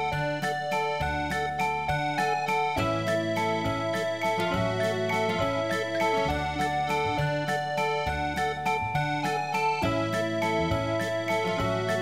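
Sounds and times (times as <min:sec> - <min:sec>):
instrumental music with bass line: 0:00.0 - 0:12.0.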